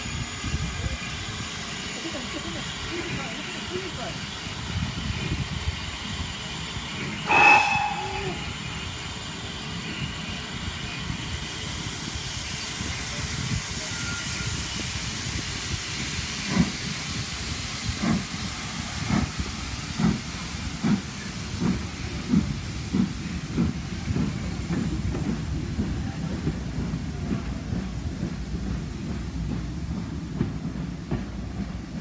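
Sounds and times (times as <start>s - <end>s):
steam locomotive chuffing: 0.0s - 32.0s
steam hissing: 2.6s - 29.4s.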